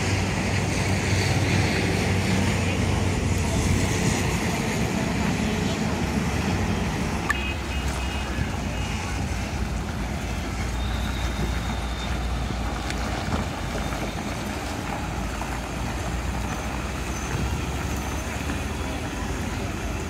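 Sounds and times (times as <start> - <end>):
road traffic: 0.0 - 20.0
truck diesel engine rumbling: 0.0 - 20.0.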